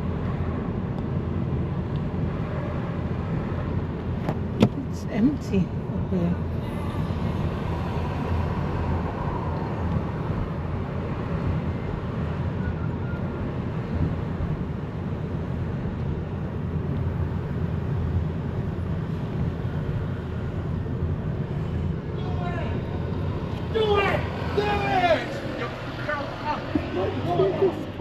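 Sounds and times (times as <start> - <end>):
vehicle rumble heard from inside: 0.0 - 28.0.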